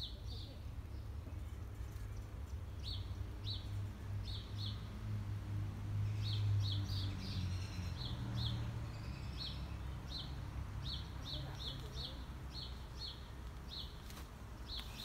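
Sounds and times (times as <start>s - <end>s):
small birds chirping: 0.0s - 5.1s, 5.8s - 15.0s.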